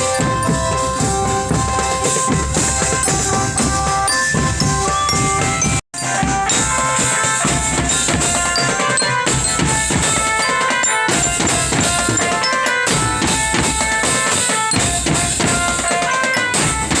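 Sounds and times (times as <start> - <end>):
bass and snare drums beating: 0.0 - 17.0.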